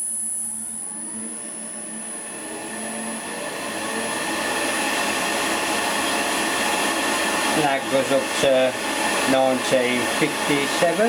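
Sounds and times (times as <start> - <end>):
lathe motor whine rising: 0.0 - 11.0
steady high-pitched whine: 0.0 - 11.0.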